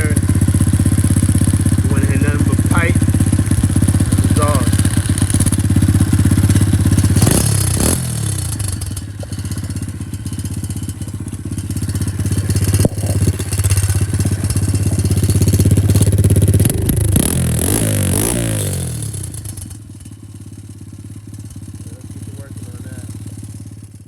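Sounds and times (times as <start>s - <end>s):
dirt bike engine idling: 0.0s - 24.0s.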